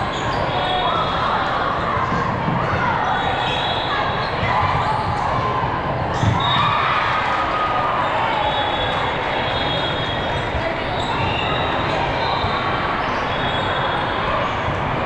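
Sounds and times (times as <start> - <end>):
voices chattering in a hall: 0.0 - 15.0.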